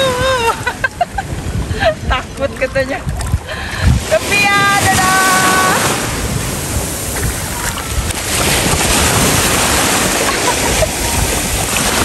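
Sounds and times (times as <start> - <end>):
sea waves breaking on shore: 0.0 - 12.0
wind on microphone: 0.0 - 12.0.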